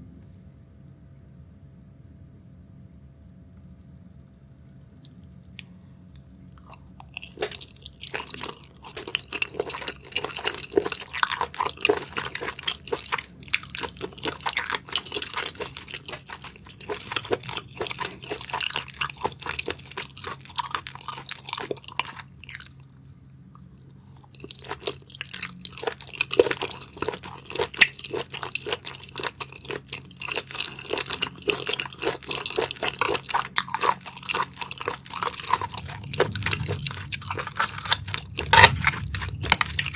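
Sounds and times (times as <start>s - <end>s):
person chewing wetly: 6.5s - 39.9s.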